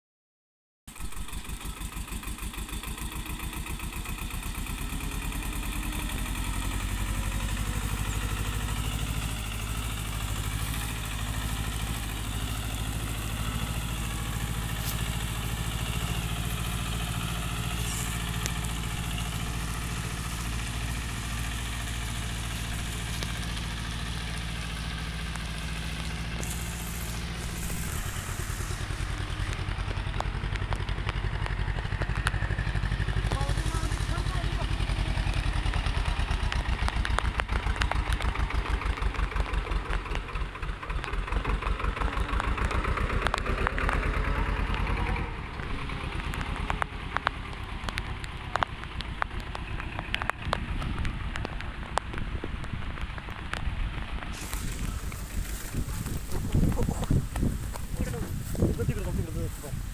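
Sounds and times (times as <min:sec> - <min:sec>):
diesel tractor engine under load: 0:00.9 - 0:59.9.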